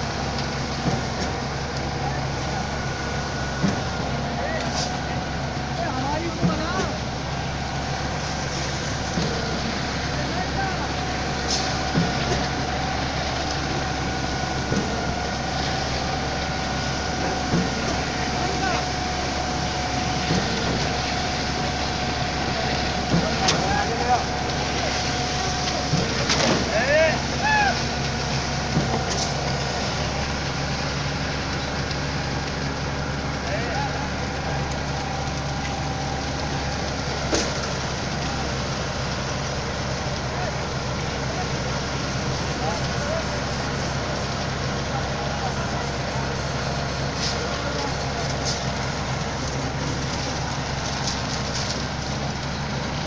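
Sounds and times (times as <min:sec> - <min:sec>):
steady whine: 0:00.0 - 0:53.0
truck engine drone: 0:00.0 - 0:53.0.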